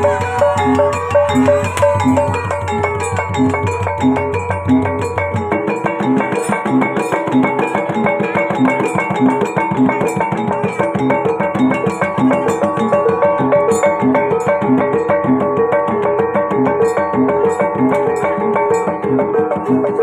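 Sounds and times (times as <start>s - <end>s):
drums playing: 0.0s - 20.0s
gamelan metal percussion: 0.0s - 20.0s.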